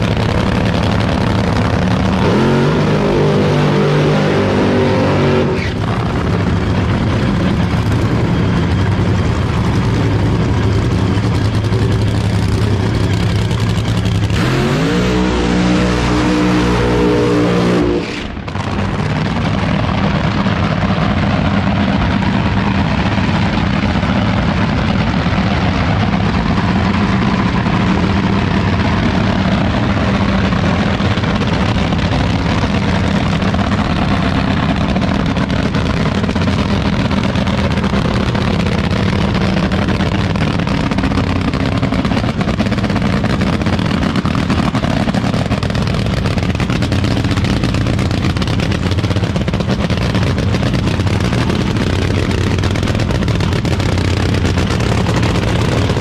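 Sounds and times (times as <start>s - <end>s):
loud engine idling: 0.0s - 56.0s.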